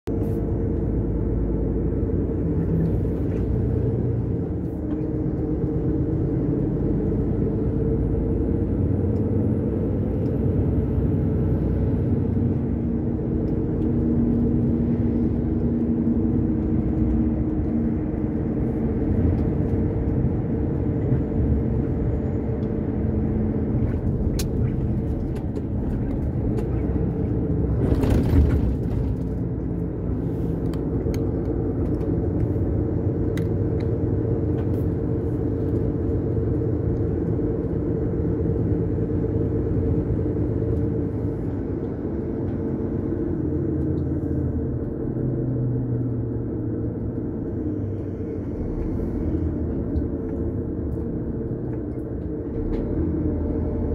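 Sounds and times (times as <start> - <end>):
road rumble: 0.0 - 53.9
diesel truck engine running: 0.1 - 53.9.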